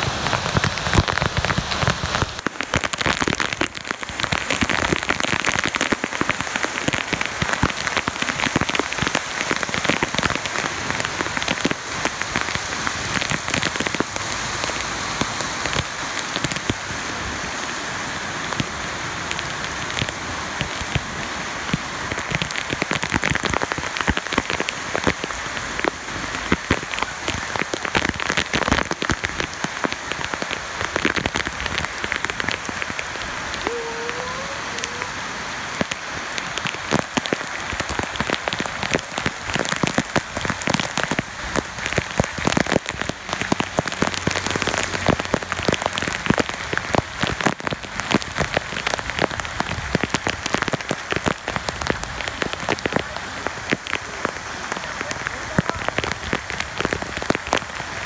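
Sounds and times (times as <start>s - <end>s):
heavy rain on flooded street: 0.0s - 58.0s.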